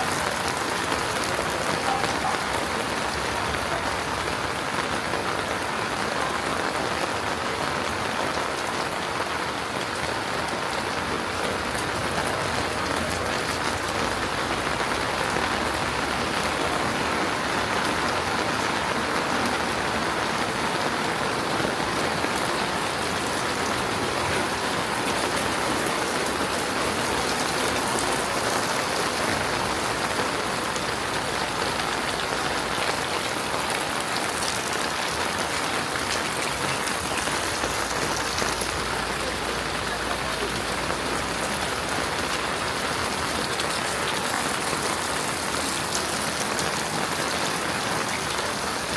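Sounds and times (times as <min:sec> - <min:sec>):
heavy rain on the ground: 0:00.0 - 0:48.9.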